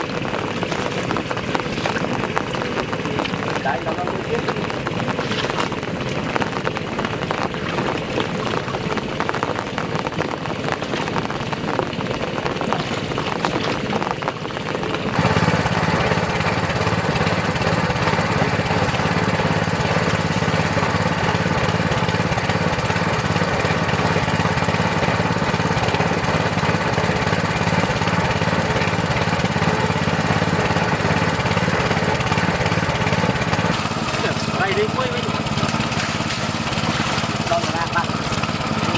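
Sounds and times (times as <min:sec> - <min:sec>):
water pump engine running: 0:00.0 - 0:38.9.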